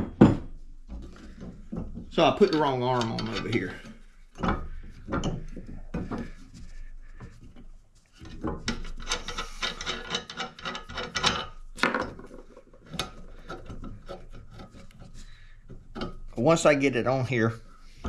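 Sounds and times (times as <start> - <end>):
hands rubbing and scraping fittings: 0.6 - 18.0.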